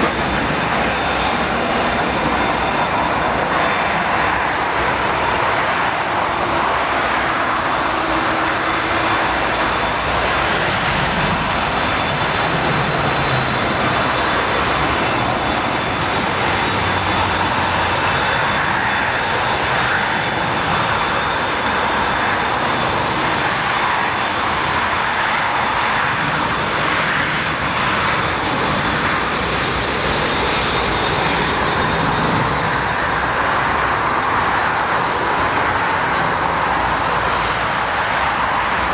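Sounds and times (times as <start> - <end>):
faint high whine: 0.0 - 38.9
jet engines at low thrust: 0.0 - 38.9.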